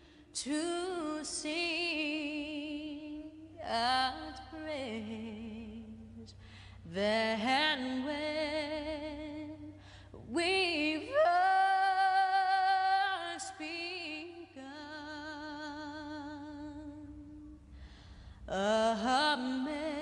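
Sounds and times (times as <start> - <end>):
woman singing with vibrato: 0.0 - 17.7, 18.5 - 20.0.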